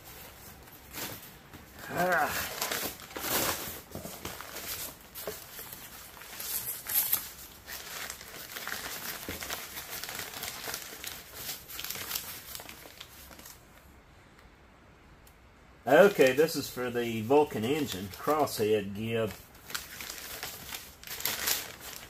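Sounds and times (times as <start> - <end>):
packing paper rustling and crinkling: 0.0 - 13.8, 15.9 - 22.0.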